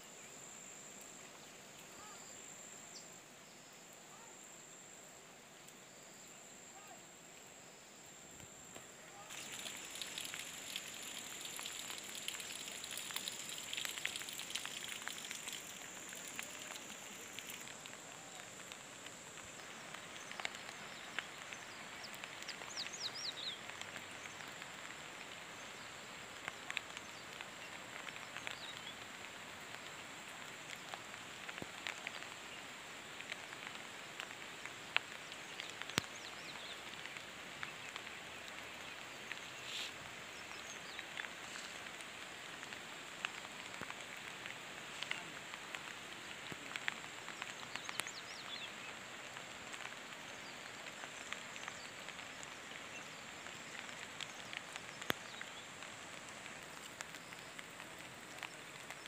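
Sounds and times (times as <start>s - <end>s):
light rain pattering: 0.0s - 59.0s.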